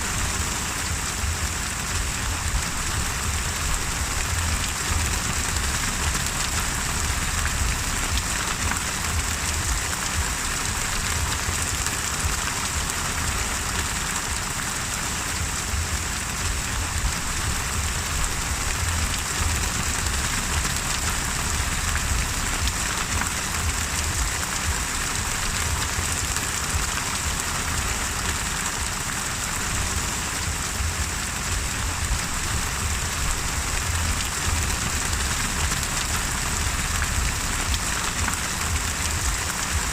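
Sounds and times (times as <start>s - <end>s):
low rumble: 0.0s - 14.6s, 15.3s - 29.0s, 29.8s - 39.9s
heavy rain: 0.0s - 39.9s.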